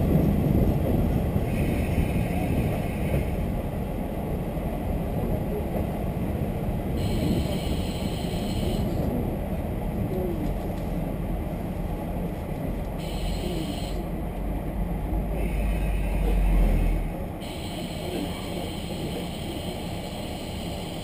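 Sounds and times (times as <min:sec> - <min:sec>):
railcar engine and running rumble: 0:00.0 - 0:21.0.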